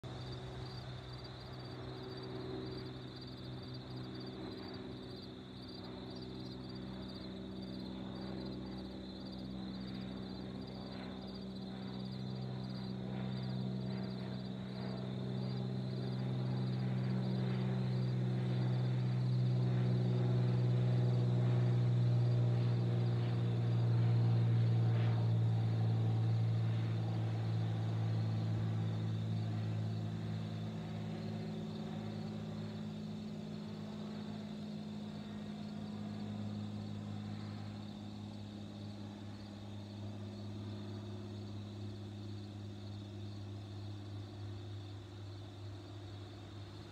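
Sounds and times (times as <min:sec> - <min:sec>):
propeller plane droning overhead: 0:00.0 - 0:46.9.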